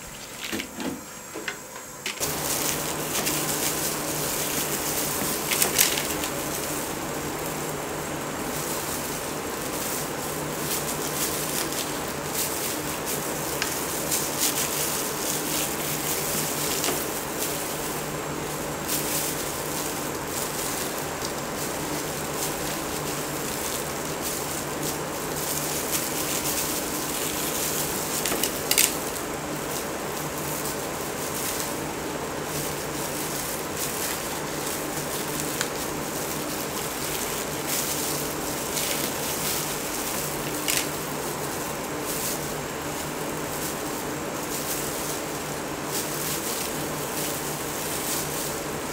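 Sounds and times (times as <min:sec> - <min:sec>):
kitchen hiss and hum: 0:00.0 - 0:48.9.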